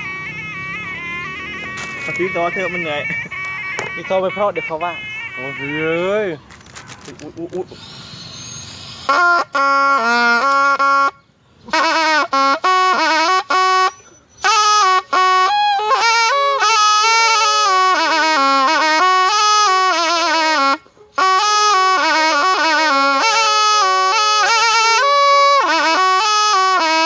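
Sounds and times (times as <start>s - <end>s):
reed pipe melody: 0.0s - 27.0s.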